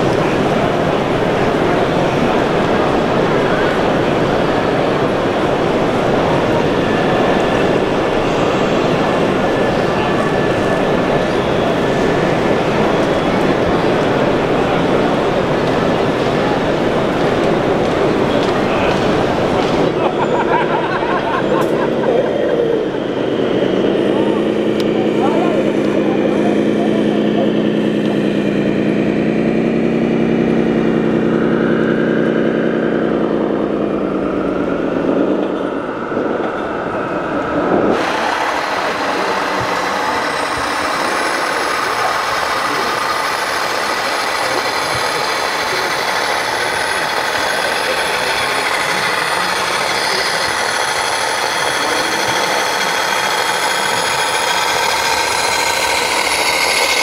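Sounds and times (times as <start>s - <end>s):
noisy background: 0.0s - 57.0s
simulated diesel engine: 0.0s - 57.0s
thin high wavering whine: 0.0s - 57.0s.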